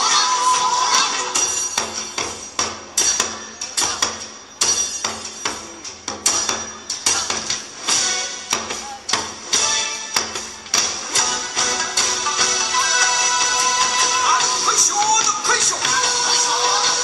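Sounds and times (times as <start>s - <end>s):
percussion strikes: 0.5s - 17.0s.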